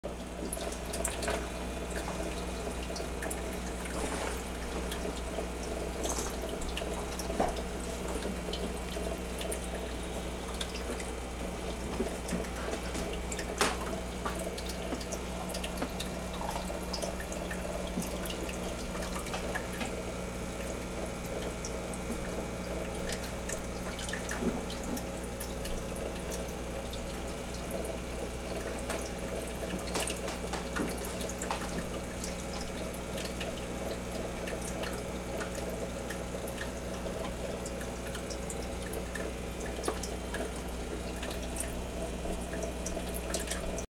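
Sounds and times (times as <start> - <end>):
aquarium water trickling: 0.1 - 43.9.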